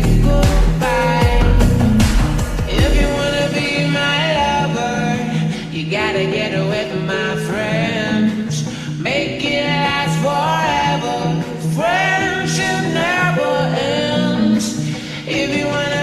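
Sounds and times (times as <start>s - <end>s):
guitar-led backing music: 0.0s - 16.0s
man singing: 0.0s - 16.0s.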